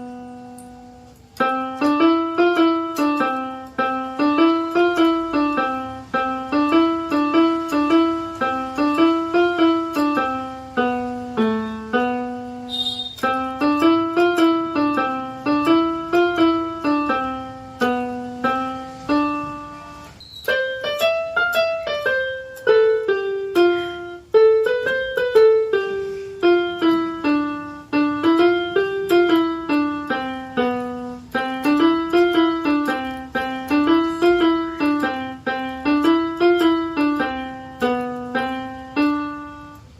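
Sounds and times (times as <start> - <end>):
electronic keyboard piano melody: 0.0 - 39.9.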